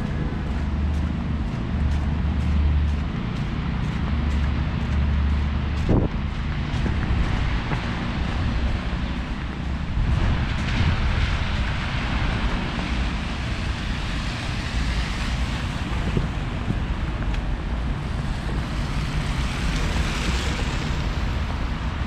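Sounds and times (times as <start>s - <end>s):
city traffic: 0.0s - 22.0s
wind rumble on microphone: 0.0s - 22.0s.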